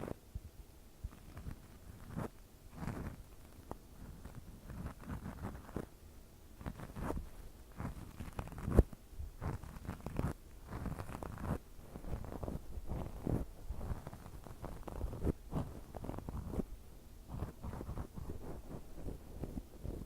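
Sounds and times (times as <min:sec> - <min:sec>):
ear pick scraping microphone: 0:01.1 - 0:05.9, 0:06.6 - 0:16.7, 0:17.3 - 0:20.0.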